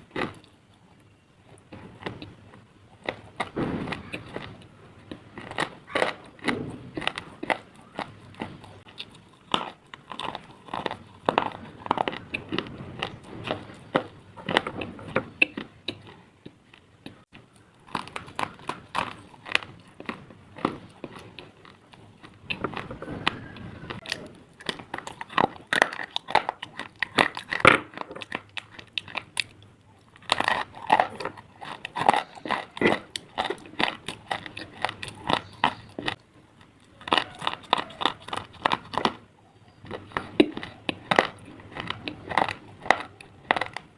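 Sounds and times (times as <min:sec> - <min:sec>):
slate being chewed: 0:00.0 - 0:43.9.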